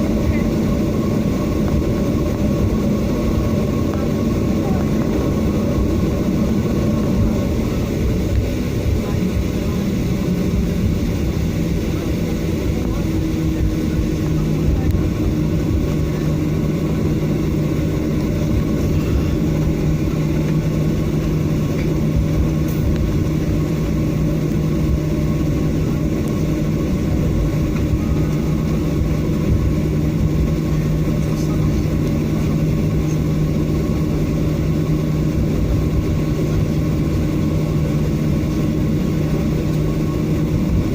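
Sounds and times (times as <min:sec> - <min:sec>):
airplane cabin rumble: 0:00.0 - 0:40.9
steady hum: 0:00.0 - 0:40.9.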